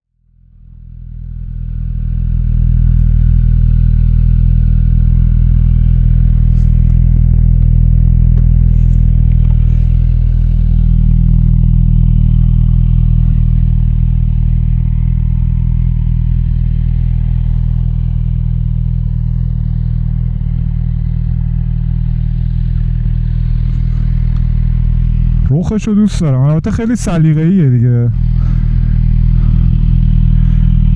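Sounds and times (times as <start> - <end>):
motorcycle engine idling: 0.2 - 30.9.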